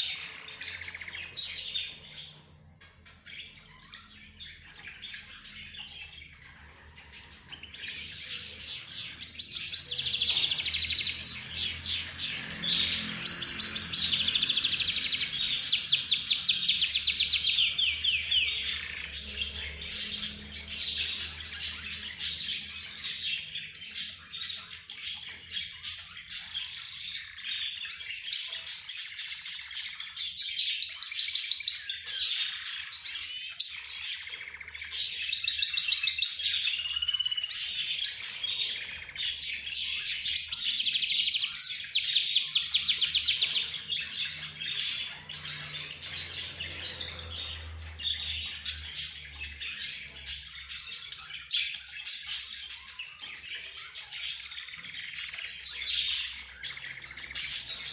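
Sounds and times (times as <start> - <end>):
cage birds chirping and trilling: 0.0 - 57.9.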